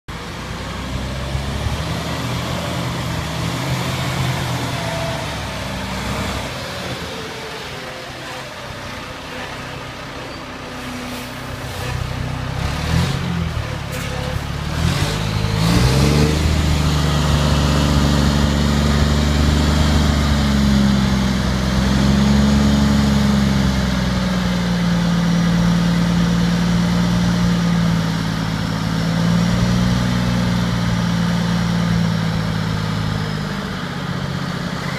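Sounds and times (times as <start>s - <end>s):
diesel truck engine revving: 0.1s - 34.9s.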